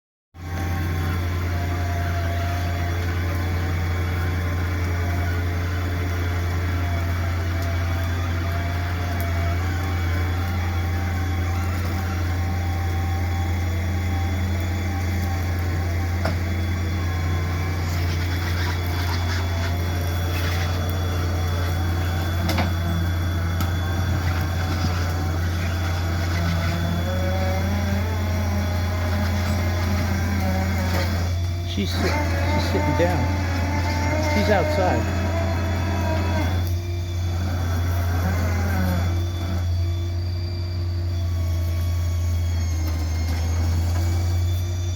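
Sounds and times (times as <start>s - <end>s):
truck engine running: 0.4s - 44.9s.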